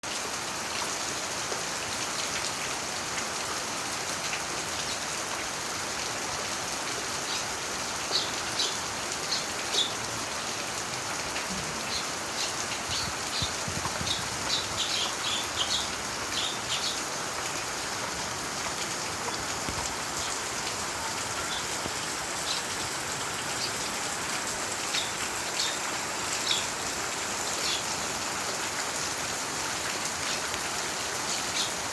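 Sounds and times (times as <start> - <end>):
rain on surfaces: 0.0 - 31.9.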